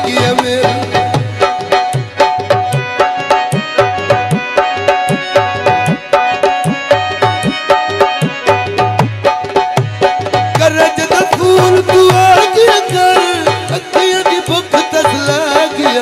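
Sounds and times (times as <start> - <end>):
hand drums fast rhythm: 0.0 - 16.0
sustained harmonium notes: 0.0 - 16.0.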